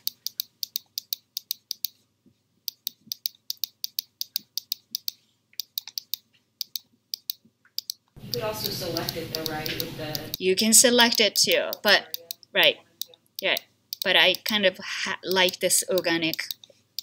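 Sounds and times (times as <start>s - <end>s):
rapid computer mouse clicking: 0.0s - 2.0s, 2.7s - 17.0s.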